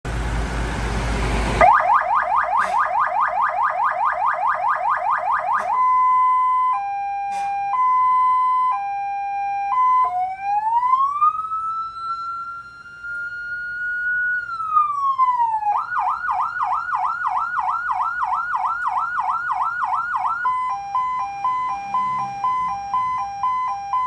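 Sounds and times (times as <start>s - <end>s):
electronic vehicle siren: 0.6s - 24.0s.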